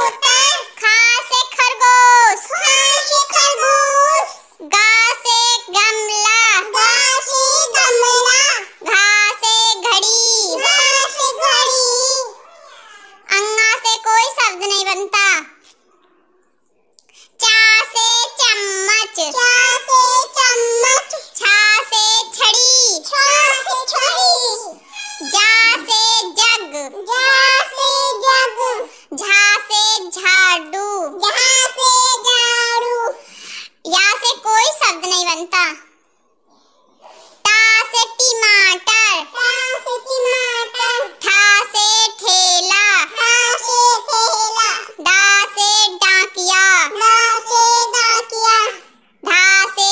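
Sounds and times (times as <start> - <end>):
child singing in a sing-song chant: 0.0 - 12.5, 13.2 - 15.4, 17.3 - 35.8, 37.4 - 49.9.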